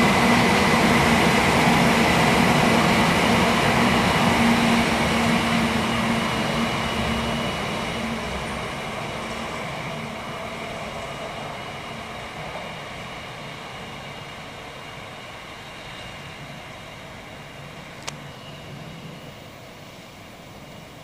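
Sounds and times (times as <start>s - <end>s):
high-speed train rushing past: 0.0s - 21.0s.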